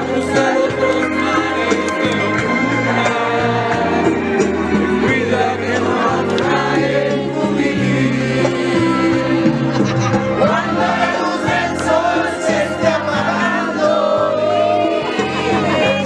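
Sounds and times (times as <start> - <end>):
singing with instrumental music: 0.0 - 16.0.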